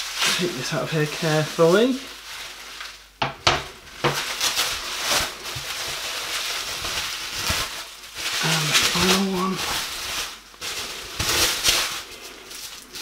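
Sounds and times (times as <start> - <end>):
bubble wrap rustling: 0.0 - 13.0.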